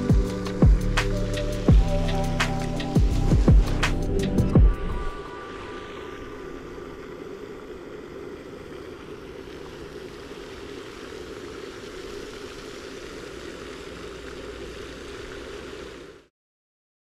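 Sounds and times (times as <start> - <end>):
steady rushing noise: 0.0 - 16.2.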